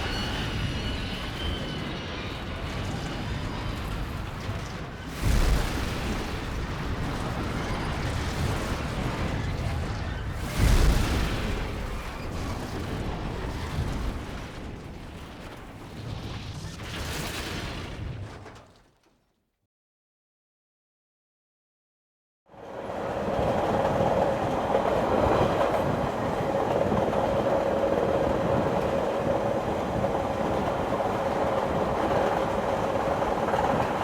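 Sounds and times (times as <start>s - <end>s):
train rumbling on rails: 0.0s - 16.7s, 22.5s - 34.0s.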